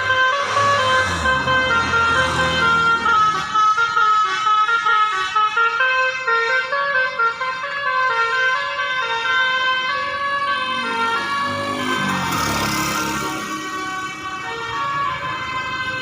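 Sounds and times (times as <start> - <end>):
multi-tone bus horn tune: 0.0 - 16.0.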